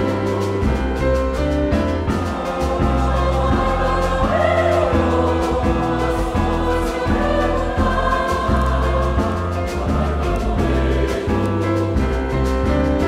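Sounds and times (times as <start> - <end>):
large mixed choir singing: 0.0 - 13.0
low bass line: 0.0 - 13.0.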